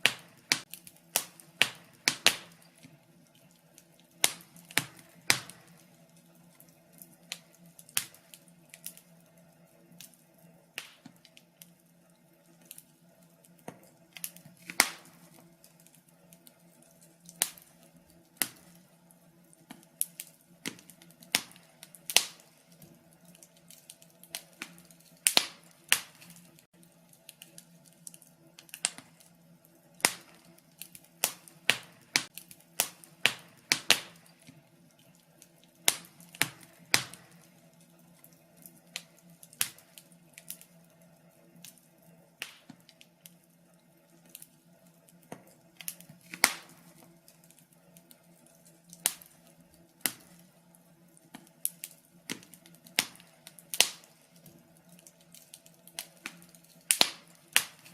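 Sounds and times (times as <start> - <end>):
faint steady hum: 0.0 - 57.9
wood fire crackling and popping: 0.0 - 57.9.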